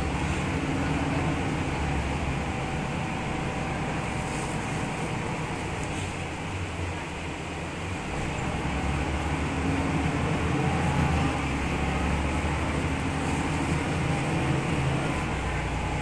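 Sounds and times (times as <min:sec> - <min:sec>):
bus diesel engine drone: 0:00.0 - 0:16.0
road noise: 0:00.0 - 0:16.0.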